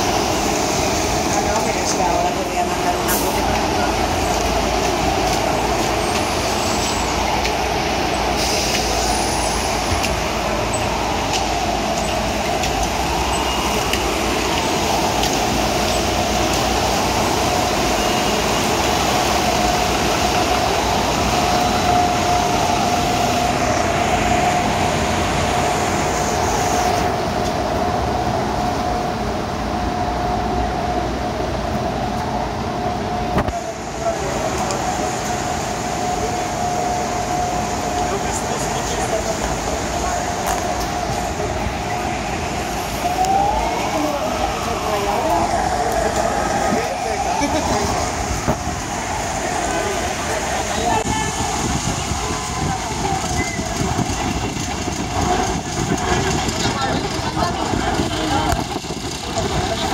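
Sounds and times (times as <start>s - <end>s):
bus engine running: 0.0s - 59.9s
floodwater rushing: 0.0s - 59.9s.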